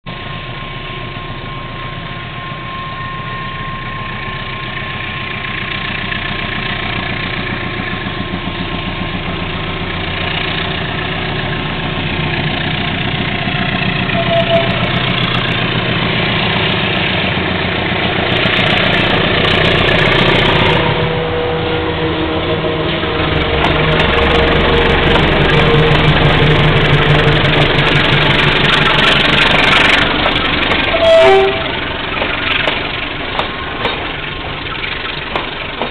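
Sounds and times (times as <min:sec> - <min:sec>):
diesel locomotive engine running: 0:00.1 - 0:35.9.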